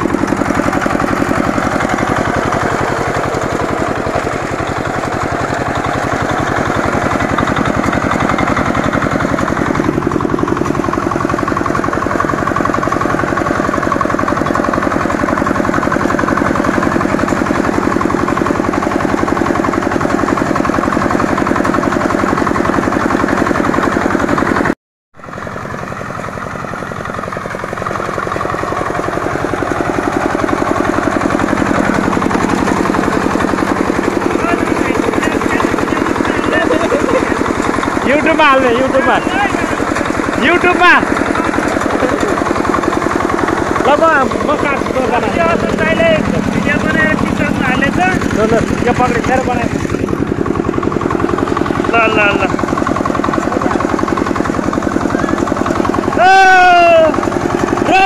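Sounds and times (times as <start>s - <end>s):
reaper engine running: 0.0s - 58.0s.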